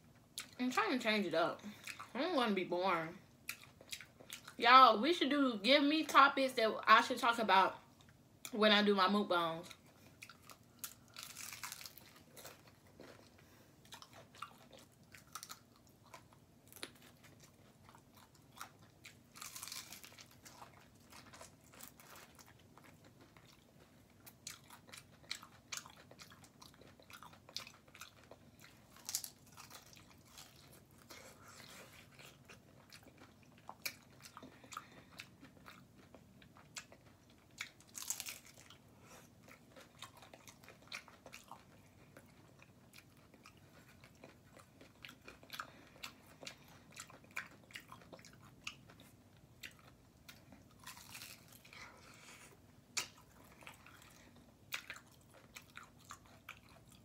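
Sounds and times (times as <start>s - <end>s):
person chewing: 3.4s - 4.6s, 9.7s - 57.0s.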